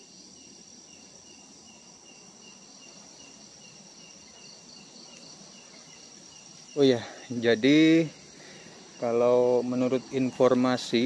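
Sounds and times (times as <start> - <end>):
crickets trilling: 0.0 - 11.0
insect chirping: 0.0 - 11.0.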